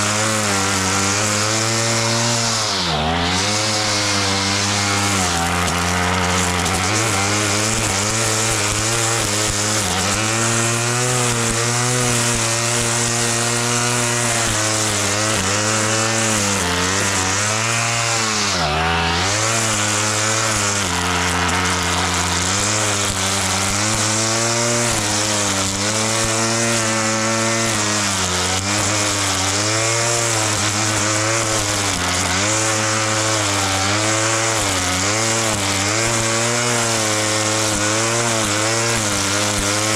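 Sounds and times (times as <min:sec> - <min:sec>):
petrol lawn mower engine: 0:00.0 - 0:39.9.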